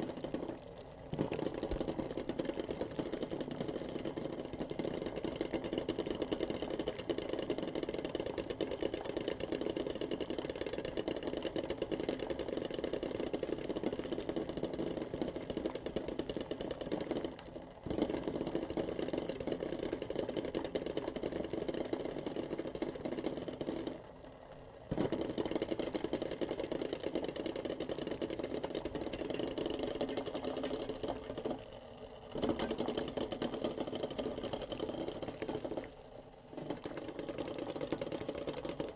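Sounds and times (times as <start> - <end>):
eggs rattling in boiling pot: 0.0 - 38.9
water bubbling: 0.0 - 38.9.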